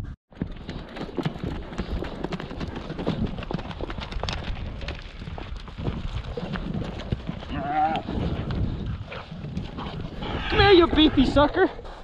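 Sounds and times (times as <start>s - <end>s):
hoofbeats on dry ground: 0.3s - 12.0s.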